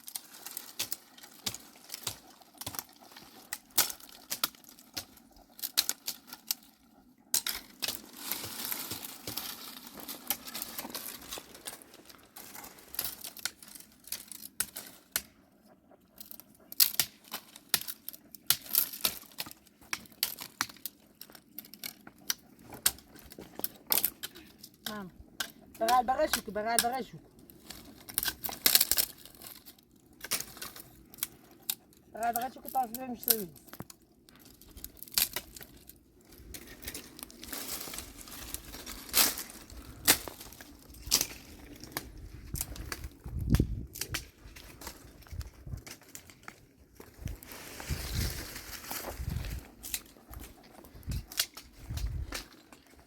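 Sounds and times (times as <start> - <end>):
dry wood crackling: 0.0 - 53.0.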